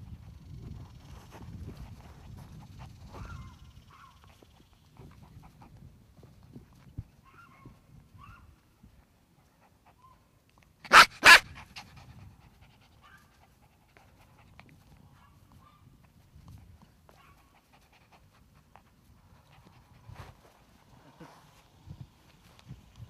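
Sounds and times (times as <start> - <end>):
puppy panting: 0.0 - 7.1, 9.2 - 21.7.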